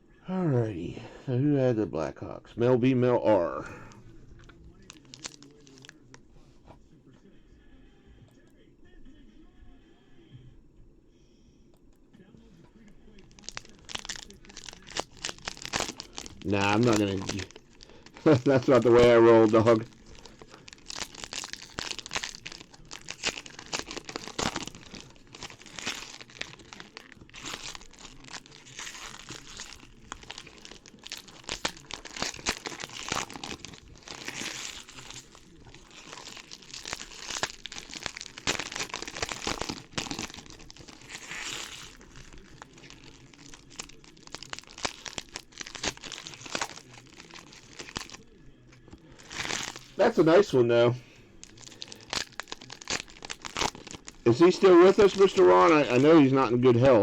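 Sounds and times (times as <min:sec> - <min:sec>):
wrappers crinkling and tearing: 0:03.6 - 0:06.2, 0:13.1 - 0:57.0
cards rustling: 0:03.9 - 0:06.2, 0:13.2 - 0:57.0.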